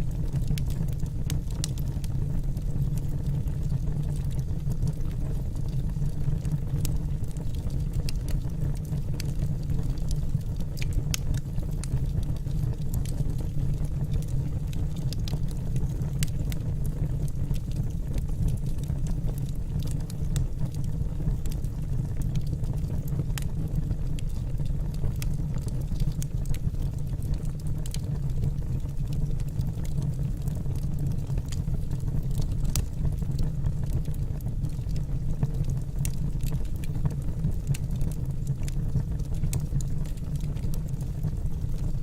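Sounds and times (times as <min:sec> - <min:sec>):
fire popping and crackling: 0:00.0 - 0:42.0
low rumble of burning logs: 0:00.0 - 0:42.0.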